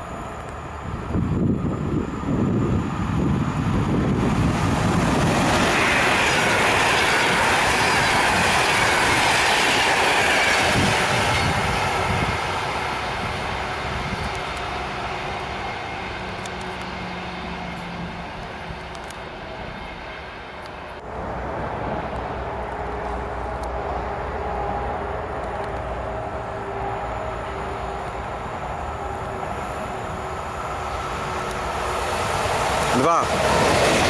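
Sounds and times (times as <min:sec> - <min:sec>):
distant train rumble: 0:00.0 - 0:34.0
electric locomotive hum and rumble: 0:00.0 - 0:34.0.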